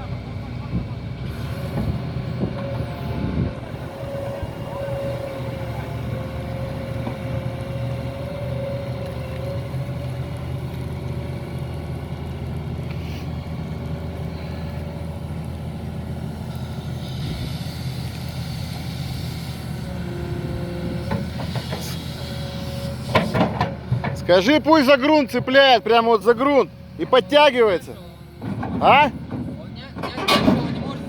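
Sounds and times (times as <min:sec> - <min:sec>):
excavator diesel engine under load: 0:00.0 - 0:31.0.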